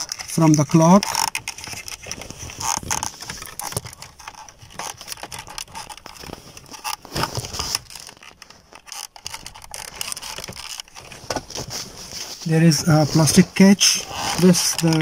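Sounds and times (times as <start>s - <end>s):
plastic clicks: 0.0s - 11.7s, 14.2s - 15.0s
crackly plastic rustling: 0.0s - 15.0s.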